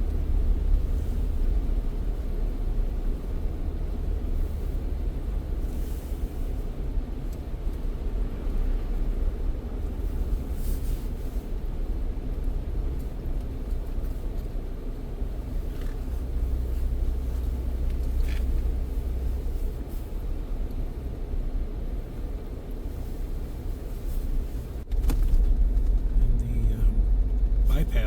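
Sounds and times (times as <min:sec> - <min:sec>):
car driving rumble: 0:00.0 - 0:28.0.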